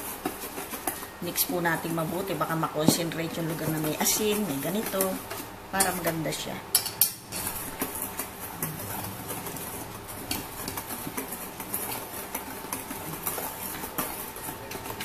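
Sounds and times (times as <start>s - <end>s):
whisk scraping in metal bowl: 0.0s - 15.0s.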